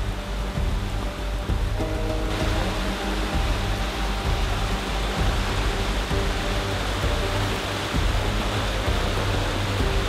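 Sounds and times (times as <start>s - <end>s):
background music of held notes: 0.0s - 10.0s
muddy stream rushing: 0.0s - 10.0s.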